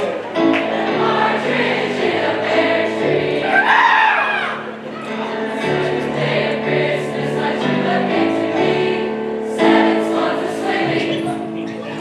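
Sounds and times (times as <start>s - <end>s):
choir singing with accompaniment: 0.0s - 12.0s.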